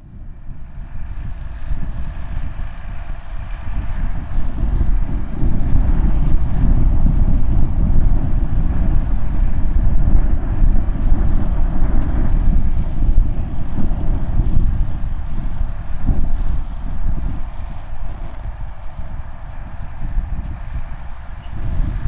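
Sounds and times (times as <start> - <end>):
wind buffeting microphone: 0.0 - 22.0
tractor diesel engine running: 0.1 - 22.0.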